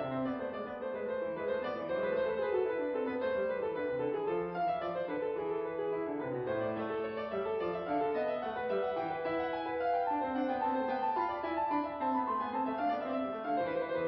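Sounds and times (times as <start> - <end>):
instrumental music: 0.0 - 14.0.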